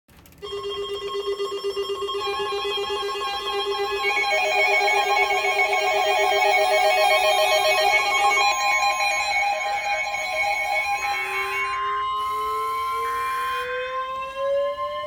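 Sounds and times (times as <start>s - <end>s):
second electronic tone: 0.4s - 13.2s
steady buzzing alert tone: 0.4s - 13.7s
two-note warbling trill: 0.4s - 14.0s.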